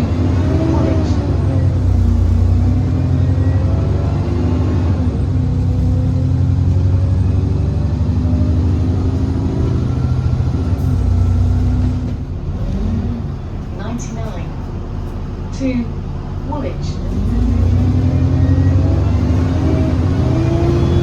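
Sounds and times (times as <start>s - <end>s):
diesel bus engine drone: 0.0s - 21.0s.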